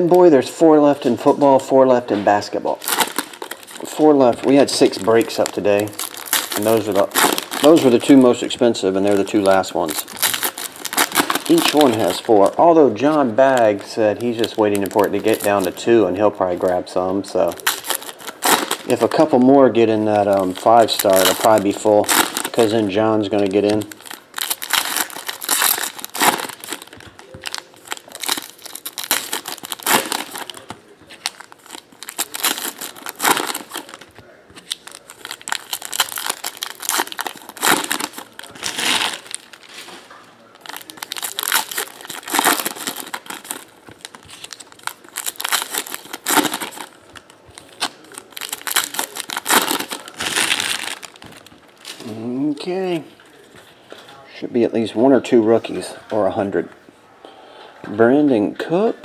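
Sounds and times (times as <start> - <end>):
foil wrappers crinkling and tearing: 2.3 - 53.4.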